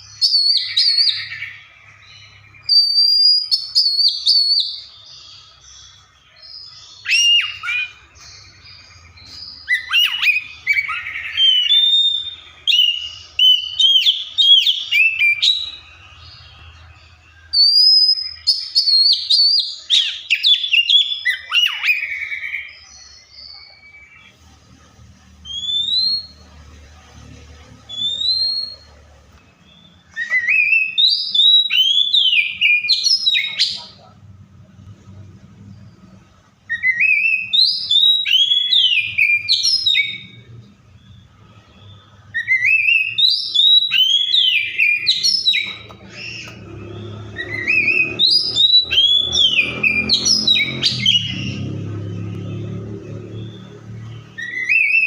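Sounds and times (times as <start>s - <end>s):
bird singing whistles and chirps: 0.0s - 24.4s, 25.3s - 26.6s, 27.7s - 34.1s, 35.6s - 55.0s.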